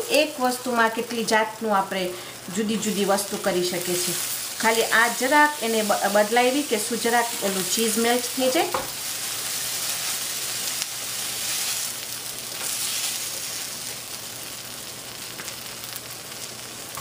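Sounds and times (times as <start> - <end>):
quesadillas sizzling in a skillet: 0.0 - 17.0.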